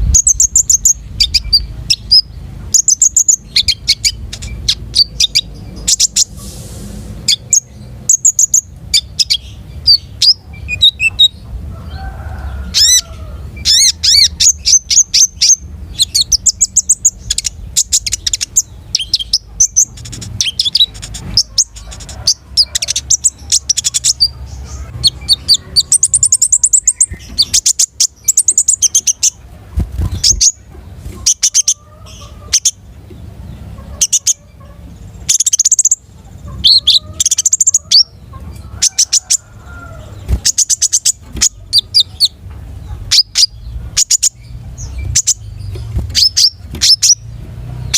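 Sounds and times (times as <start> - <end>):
songbird singing: 0.0 - 6.6, 7.2 - 47.9.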